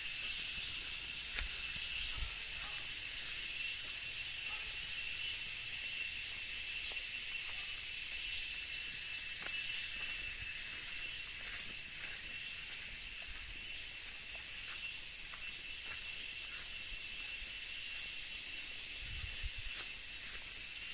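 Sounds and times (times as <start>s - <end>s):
shrill insect chorus: 0.0s - 20.9s.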